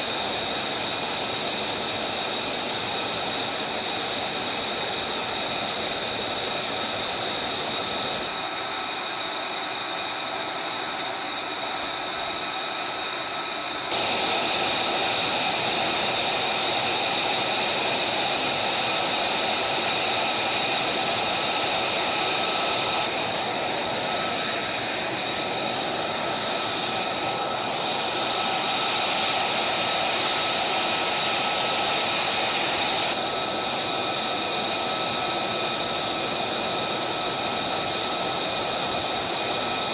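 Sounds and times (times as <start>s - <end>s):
high steady whine tones: 0.0s - 39.9s.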